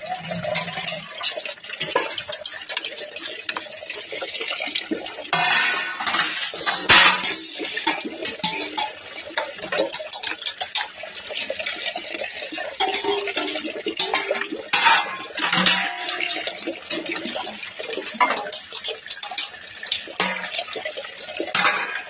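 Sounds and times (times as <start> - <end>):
steel dishes clinking and clanging: 0.0 - 22.0
water splashing: 0.0 - 22.0.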